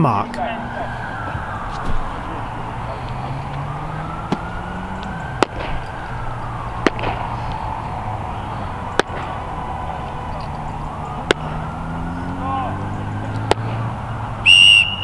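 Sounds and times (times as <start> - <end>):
faint gliding whine: 0.1 - 15.0
steady low drone: 0.2 - 12.3.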